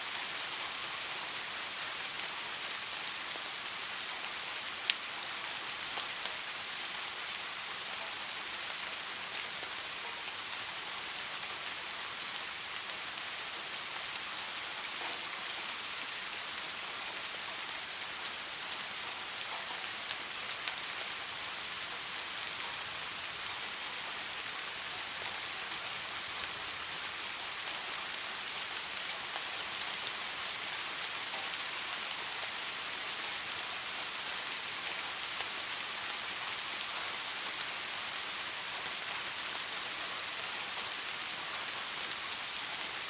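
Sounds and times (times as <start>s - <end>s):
soft rain hiss: 0.0s - 43.0s.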